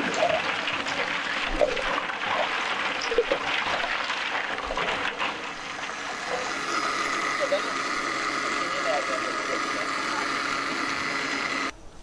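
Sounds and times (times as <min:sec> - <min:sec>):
water splashes: 0:00.0 - 0:11.0.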